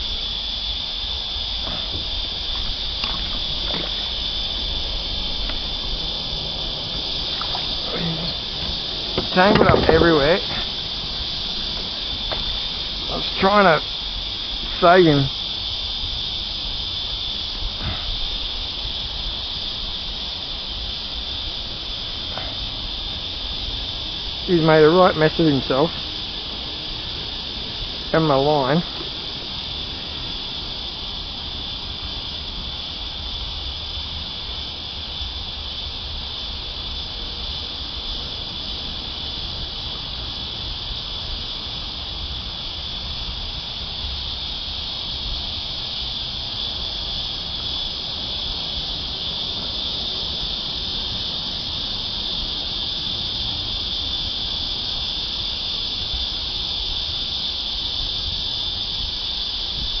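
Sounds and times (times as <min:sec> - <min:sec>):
cicadas buzzing: 0:00.0 - 1:00.0.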